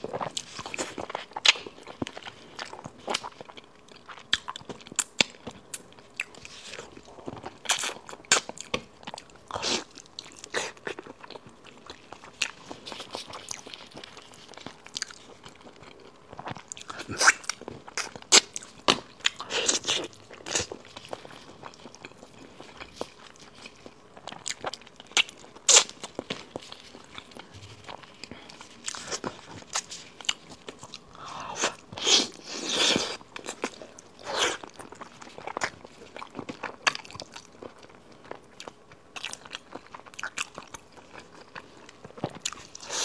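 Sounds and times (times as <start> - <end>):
close chewing and biting: 0.0 - 43.0.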